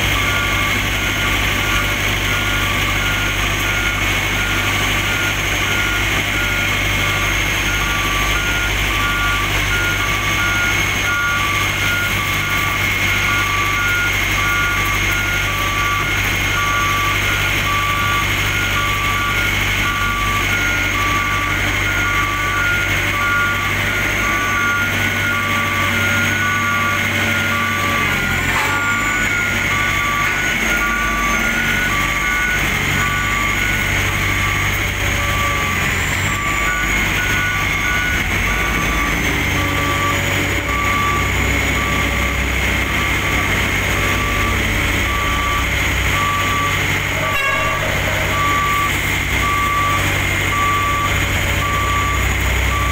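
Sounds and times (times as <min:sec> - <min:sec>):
diesel engines running: 0:00.0 - 0:52.9
reversing alarm beeping: 0:00.0 - 0:52.9.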